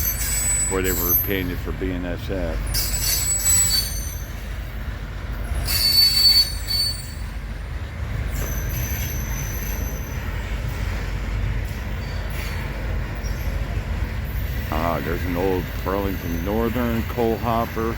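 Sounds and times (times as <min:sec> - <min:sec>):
train wheels squealing: 0:00.0 - 0:01.7, 0:02.5 - 0:04.7, 0:05.3 - 0:07.4, 0:08.1 - 0:17.9
freight train rumbling past: 0:00.0 - 0:17.9.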